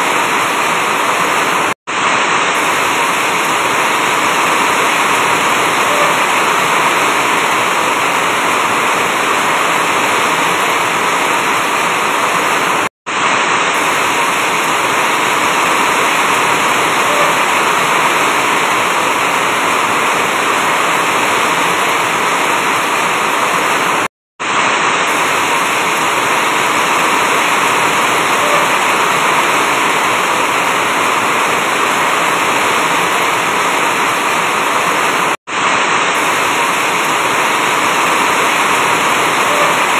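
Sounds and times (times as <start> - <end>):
heavy rain on a sheet roof: 0.0 - 39.9.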